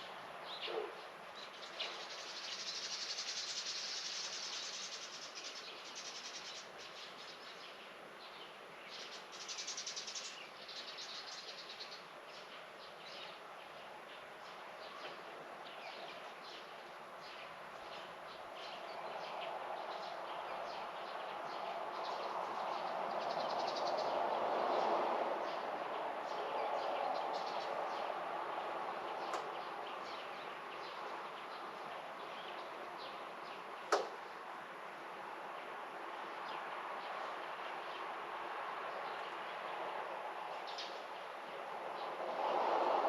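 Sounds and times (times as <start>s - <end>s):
songbirds chirping: 0.0s - 43.0s.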